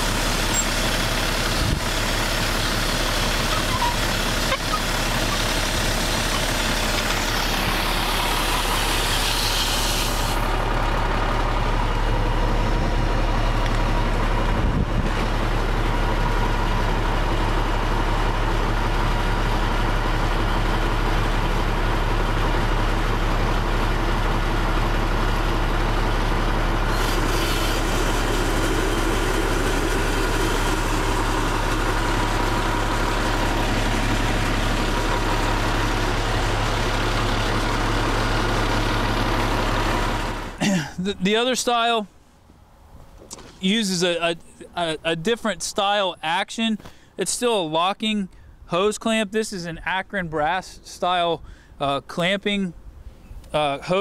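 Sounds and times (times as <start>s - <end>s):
diesel engine and pump humming: 0.0s - 54.0s.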